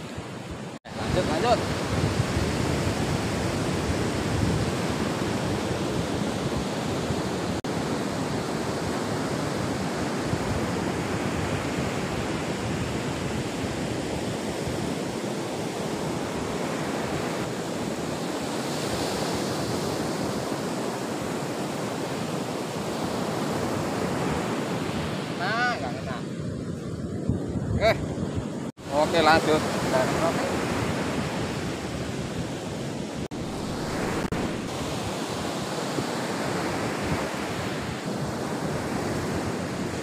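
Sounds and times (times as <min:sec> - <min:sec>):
waves breaking on beach: 0:00.0 - 0:40.0.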